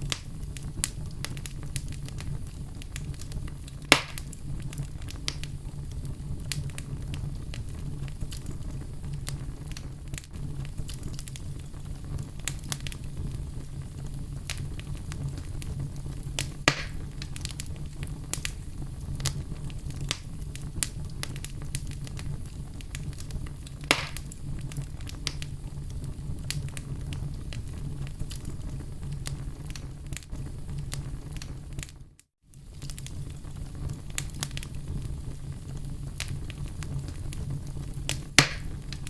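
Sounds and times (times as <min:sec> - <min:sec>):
fire crackling: 0:00.0 - 0:39.0
fire flames rumbling: 0:00.0 - 0:39.0
fire popping: 0:00.0 - 0:39.0.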